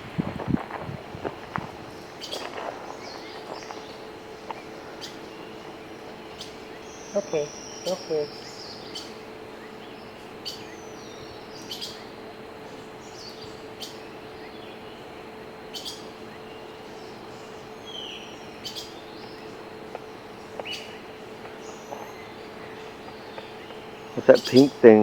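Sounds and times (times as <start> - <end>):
faint hum: 0.0 - 25.0
outdoor hiss: 0.0 - 25.0
small songbirds chirping: 1.2 - 25.0.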